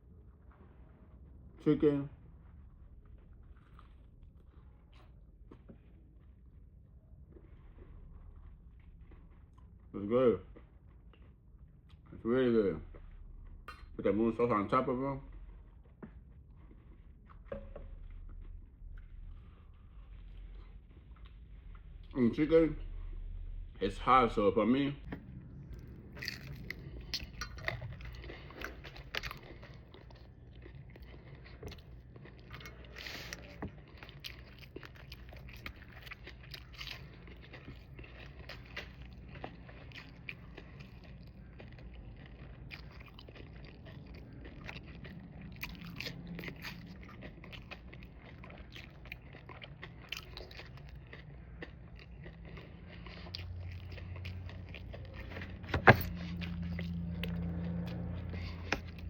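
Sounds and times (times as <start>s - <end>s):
low steady hum: 0.0s - 59.0s
person chewing crunchy food: 2.2s - 12.2s, 12.8s - 22.1s, 25.0s - 59.0s.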